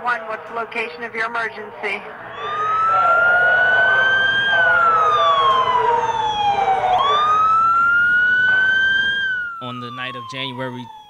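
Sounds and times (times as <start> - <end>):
emergency vehicle siren wailing: 1.7 - 11.0.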